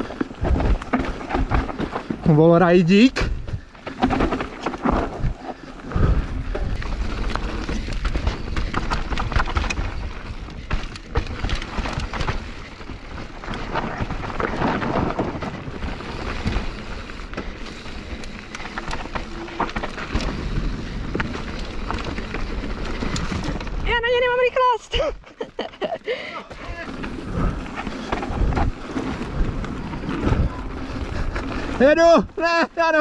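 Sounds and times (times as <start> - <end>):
bike rattling and knocking: 0.0 - 24.7, 25.3 - 33.0
bike tyres on dirt: 0.0 - 33.0.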